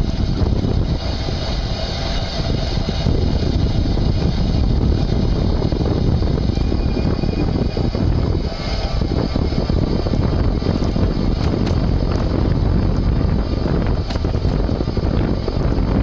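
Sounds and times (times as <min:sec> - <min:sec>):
hub motor clattering rattle: 0:00.0 - 0:16.0
wind and road noise: 0:00.0 - 0:16.0.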